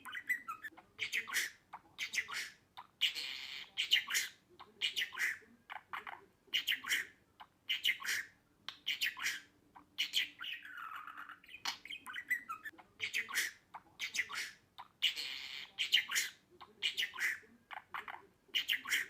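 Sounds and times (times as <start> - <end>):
budgerigar chirping: 0.0 - 19.0.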